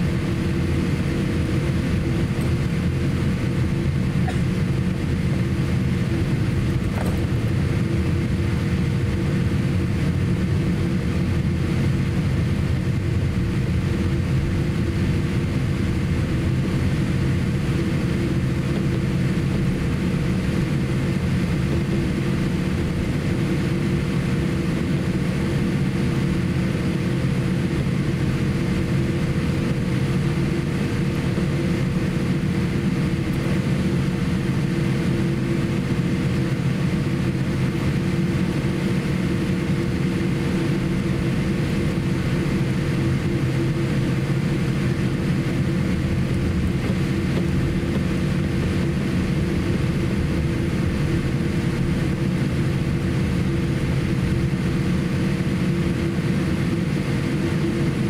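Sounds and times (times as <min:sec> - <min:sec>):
aircraft engines rumbling: 0:00.0 - 0:58.0
constant cabin hum: 0:00.0 - 0:58.0.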